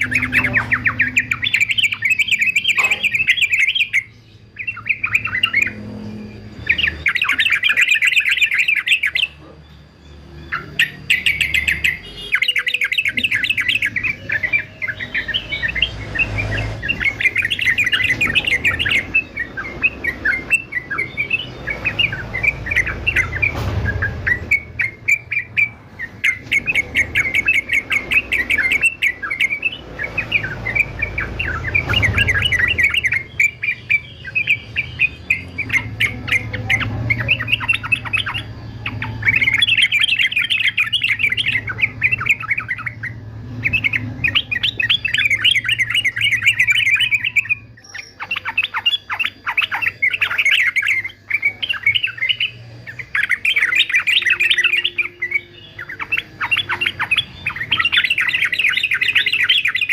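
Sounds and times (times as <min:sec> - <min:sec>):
bird singing chattering phrases: 0:00.0 - 0:59.9.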